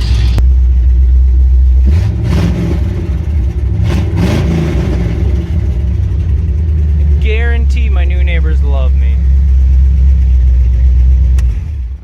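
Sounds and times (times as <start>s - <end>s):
pickup engine idling and revving: 0.0s - 12.0s.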